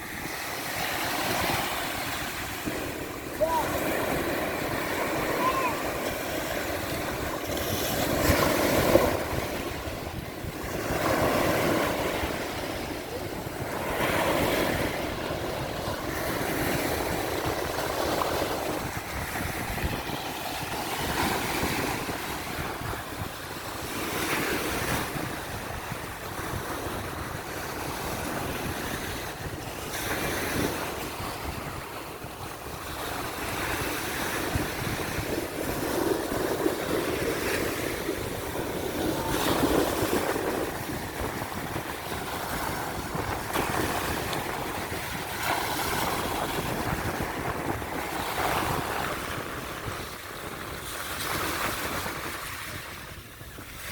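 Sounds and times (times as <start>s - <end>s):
ocean waves breaking on shore: 0.0s - 53.9s
wind on microphone: 0.0s - 53.9s.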